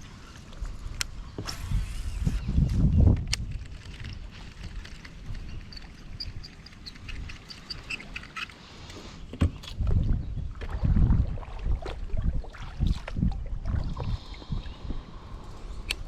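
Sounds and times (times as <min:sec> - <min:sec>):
wind buffeting microphone: 0:00.7 - 0:07.6, 0:09.4 - 0:16.0.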